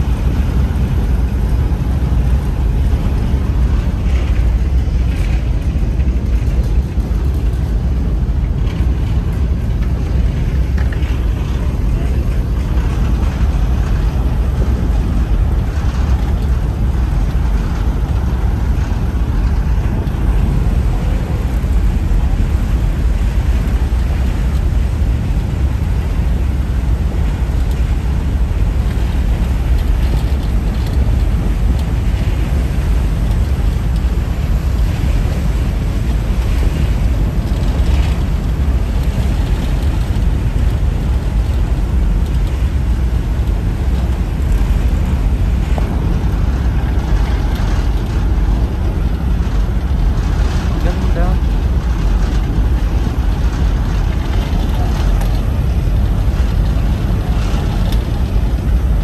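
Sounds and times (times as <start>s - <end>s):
churning wake: 0.0s - 59.0s
ferry engine rumble: 0.0s - 59.0s
wind on microphone: 0.0s - 59.0s.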